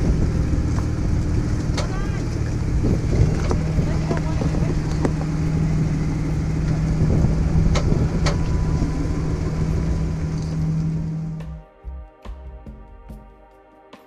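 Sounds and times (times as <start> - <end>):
car engine droning: 0.0 - 11.6.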